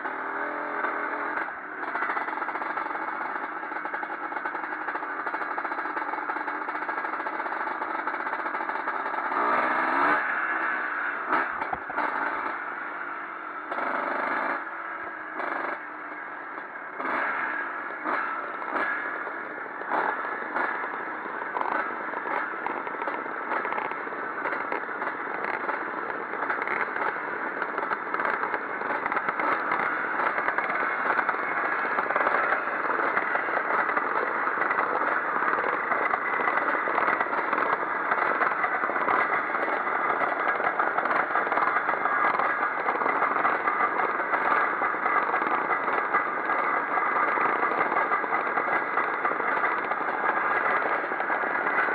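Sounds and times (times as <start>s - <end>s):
motocross motorcycles racing: 0.0s - 51.9s.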